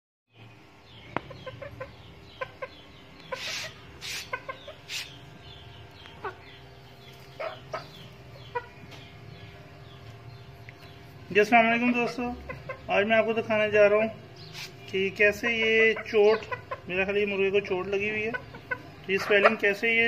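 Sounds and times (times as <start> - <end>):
chickens clucking: 0.9 - 20.0.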